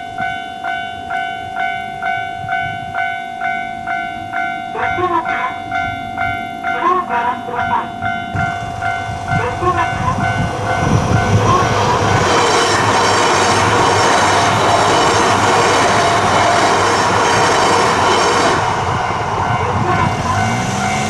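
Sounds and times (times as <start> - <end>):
crossing warning bells ringing: 0.0 - 21.0
train rushing past: 1.6 - 21.0.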